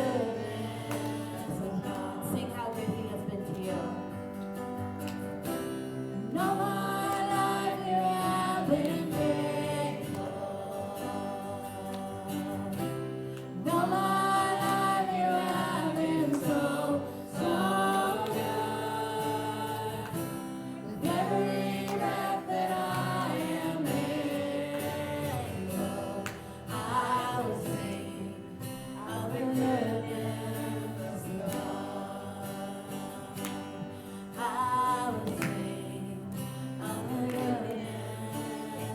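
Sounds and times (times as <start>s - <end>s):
guitar: 0.0s - 38.9s
voices singing gospel song: 0.0s - 38.9s.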